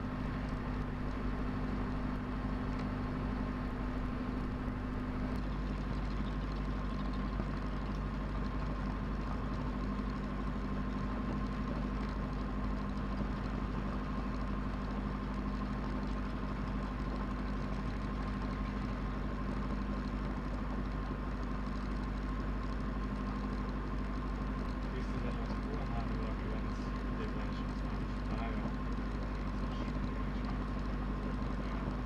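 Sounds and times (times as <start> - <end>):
airplane engine idling: 0.0 - 32.0.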